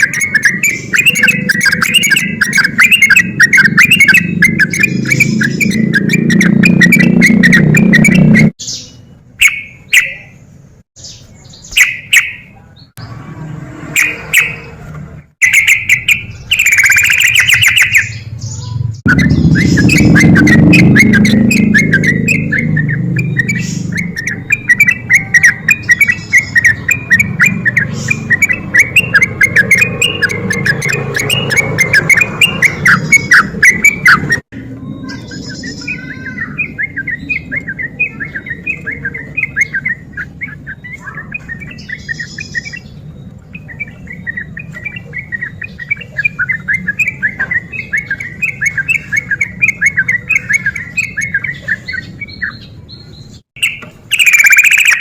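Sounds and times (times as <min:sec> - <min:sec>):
bird chattering song: 0:00.0 - 0:13.2, 0:13.9 - 0:55.0.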